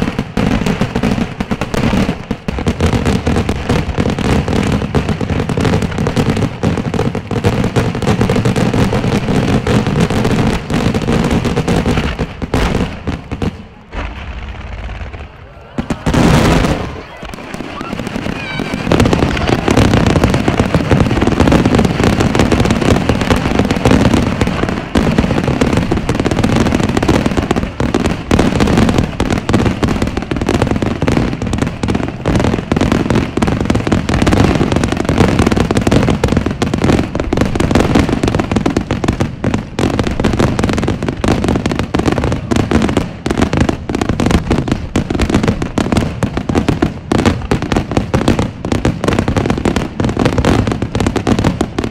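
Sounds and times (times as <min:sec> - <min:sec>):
fireworks bursting: 0:00.0 - 0:51.9.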